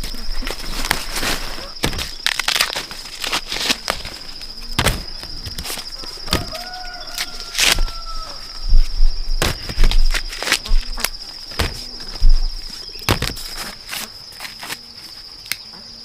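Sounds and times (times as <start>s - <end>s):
knocks and rustling: 0.0s - 8.0s, 8.7s - 14.1s
insect trill: 0.0s - 16.0s.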